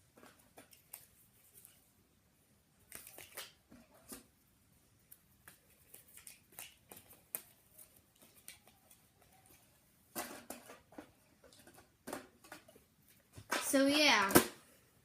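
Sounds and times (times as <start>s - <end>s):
faint clicks and rustles: 0.0s - 2.0s, 2.8s - 13.8s.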